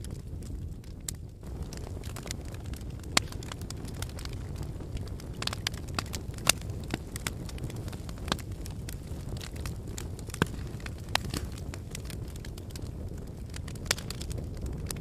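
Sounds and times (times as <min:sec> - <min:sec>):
fire crackling: 0:00.0 - 0:15.0.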